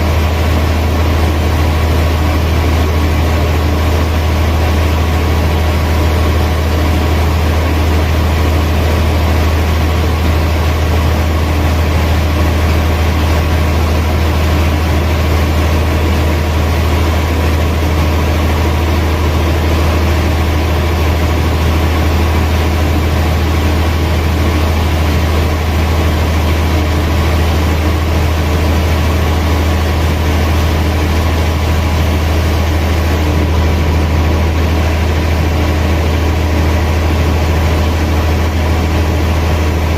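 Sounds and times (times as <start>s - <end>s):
machinery motors humming: 0.0s - 39.9s.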